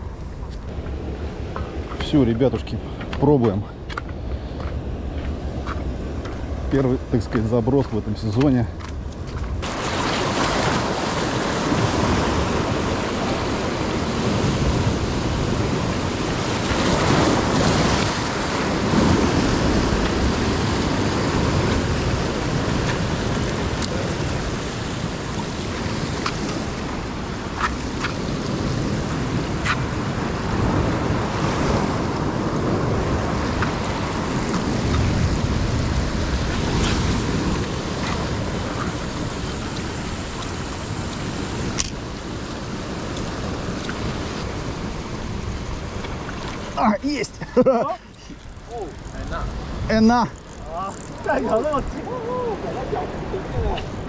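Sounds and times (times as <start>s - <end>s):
ocean surf washing over rocks: 0.0s - 54.0s.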